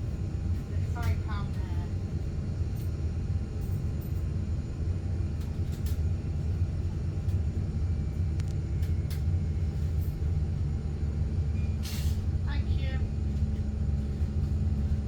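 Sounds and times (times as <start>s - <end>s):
bus drivetrain rumble: 0.0s - 15.0s.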